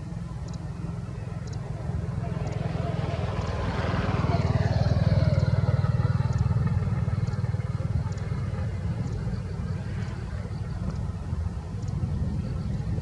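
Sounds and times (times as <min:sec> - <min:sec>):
motor vehicle passing by: 0:00.0 - 0:13.0
pulsing low rumble: 0:00.0 - 0:13.0.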